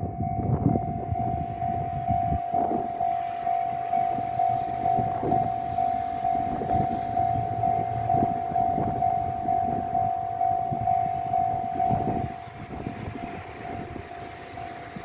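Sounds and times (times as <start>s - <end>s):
level-crossing alarm ringing: 0.0s - 15.0s
tram wheels knocking and rumbling: 0.0s - 15.0s.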